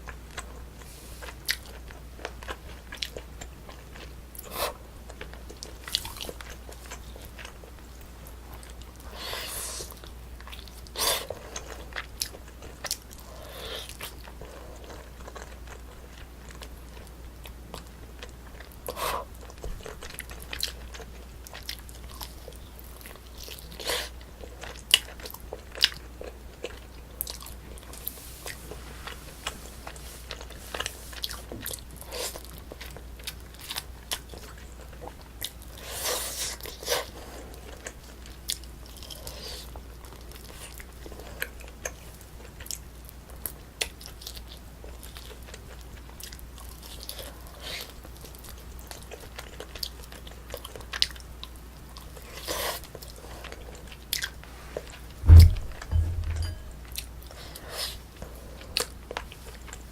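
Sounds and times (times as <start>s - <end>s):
person chewing food: 0.3s - 42.8s, 43.4s - 55.0s.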